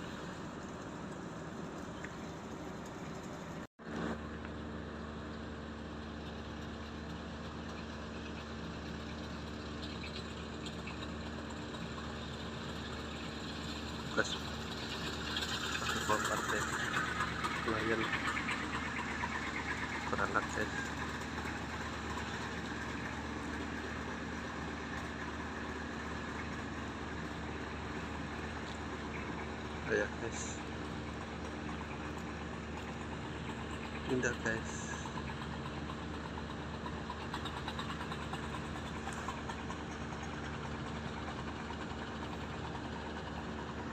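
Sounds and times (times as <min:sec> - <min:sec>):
boat engine humming: 0:00.0 - 0:43.9.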